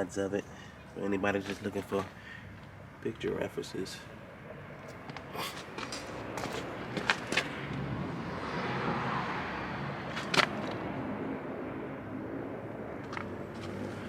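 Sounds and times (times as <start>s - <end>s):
outdoor background noise: 0.0s - 14.0s
road vehicle passing: 0.4s - 14.0s.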